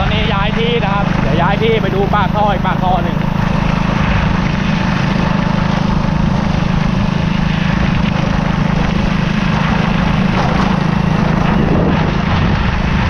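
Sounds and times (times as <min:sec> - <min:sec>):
small motorcycle engines running: 0:00.0 - 0:13.0
wind on microphone: 0:00.0 - 0:13.0.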